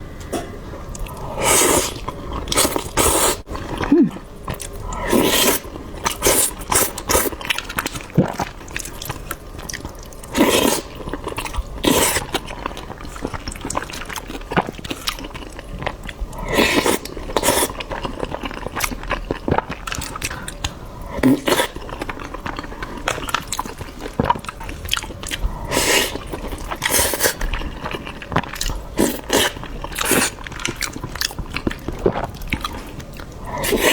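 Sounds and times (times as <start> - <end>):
biting and chewing food: 1.8 - 33.9.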